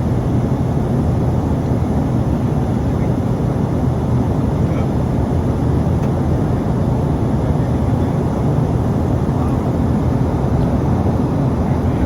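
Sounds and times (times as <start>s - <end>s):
turboprop engine drone in cabin: 0.0s - 12.0s.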